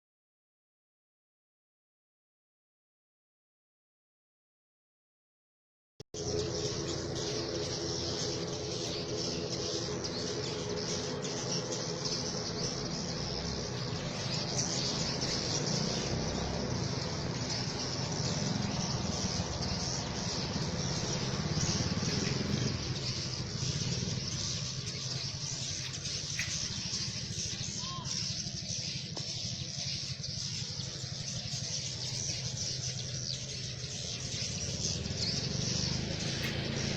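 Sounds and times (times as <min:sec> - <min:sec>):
steady low hum: 0:06.2 - 0:36.9.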